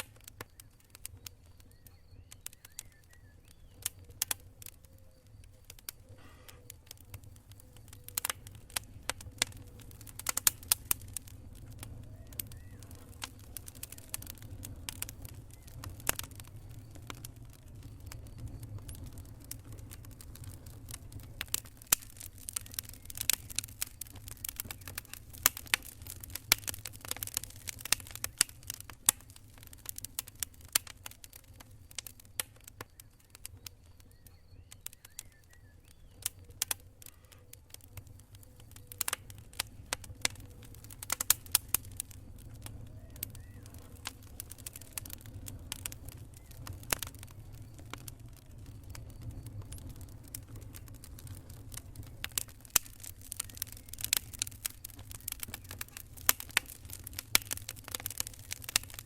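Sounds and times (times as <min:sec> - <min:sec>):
low fire rumble: 0:00.0 - 0:59.0
pops and snaps of burning wood: 0:00.0 - 0:59.0.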